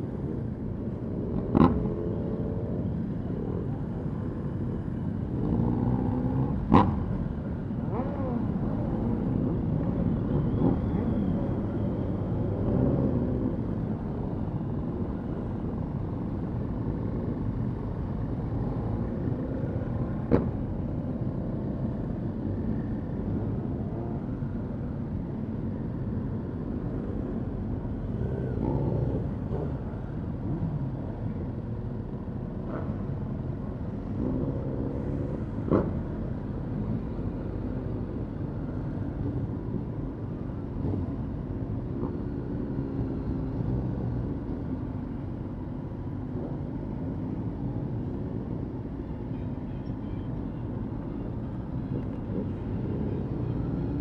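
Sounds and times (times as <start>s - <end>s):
motorcycle engines revving: 0.0s - 49.7s, 50.6s - 54.0s.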